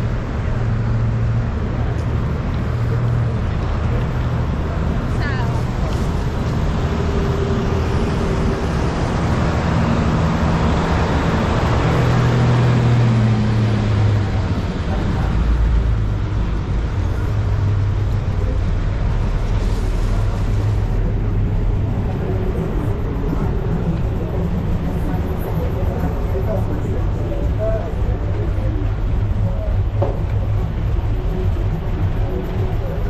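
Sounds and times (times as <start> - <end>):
bus engine running: 0.0 - 33.0.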